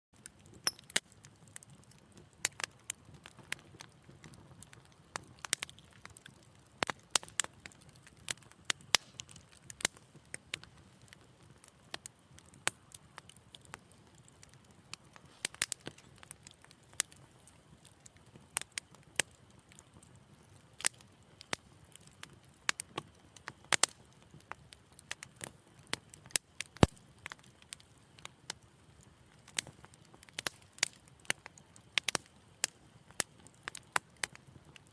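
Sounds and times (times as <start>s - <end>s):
low rumble of flames: 0.2s - 34.9s
wood fire popping and snapping: 0.2s - 34.9s.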